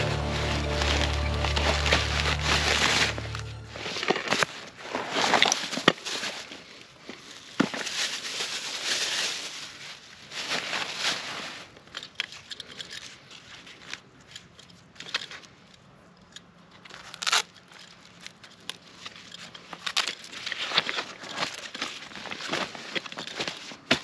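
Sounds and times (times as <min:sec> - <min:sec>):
packaging rustling and tearing: 0:00.0 - 0:14.0, 0:16.8 - 0:24.0.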